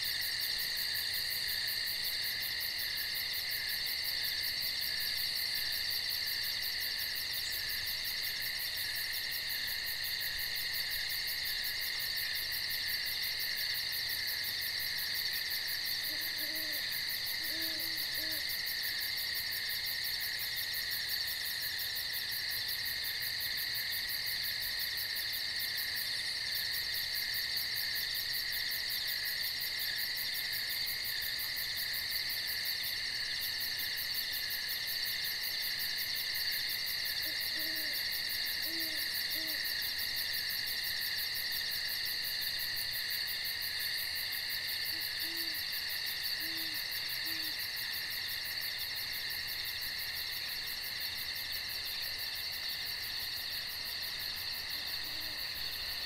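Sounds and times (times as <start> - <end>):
insect chorus trilling: 0.0 - 56.0.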